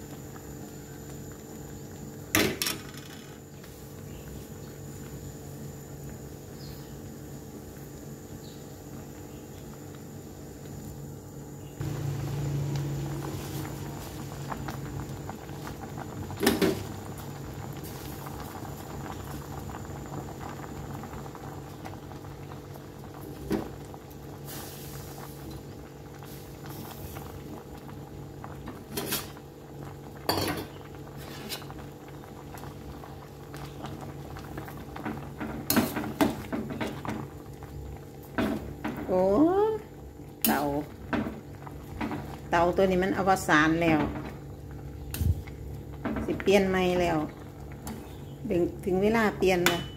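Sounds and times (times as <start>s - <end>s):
soup bubbling at a boil: 0.0s - 49.9s.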